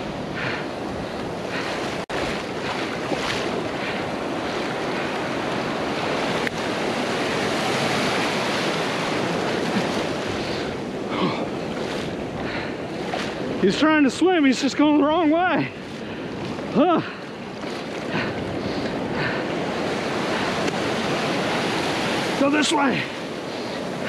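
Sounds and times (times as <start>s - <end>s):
surf washing over sand: 0.0s - 24.0s
wind buffeting microphone: 0.0s - 24.0s.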